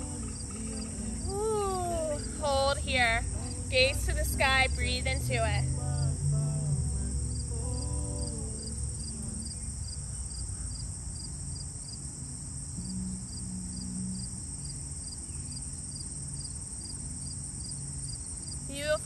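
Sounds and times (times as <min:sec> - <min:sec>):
low rumble: 0:00.0 - 0:18.7
high-pitched chirring: 0:00.0 - 0:19.0.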